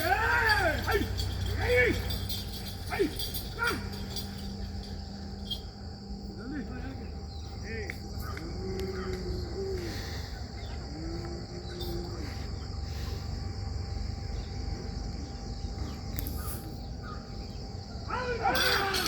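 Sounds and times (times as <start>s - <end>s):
crickets chirring: 0.0s - 19.0s
long drawn-out insect calls: 0.0s - 19.0s.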